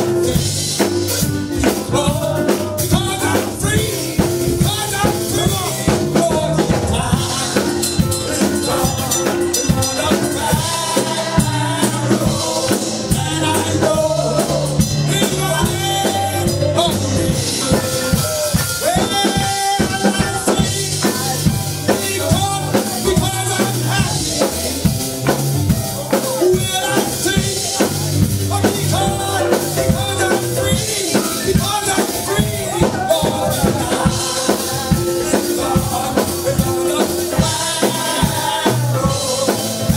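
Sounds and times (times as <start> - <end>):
drum kit beat: 0.0 - 39.9
keyboard: 0.0 - 39.9
man singing through sound system: 0.0 - 39.9.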